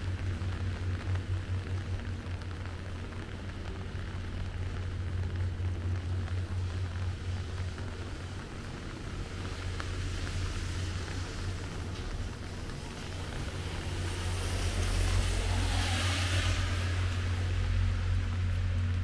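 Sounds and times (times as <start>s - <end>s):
car tyres on wet road: 0.0s - 19.0s
rain pattering: 0.0s - 19.0s.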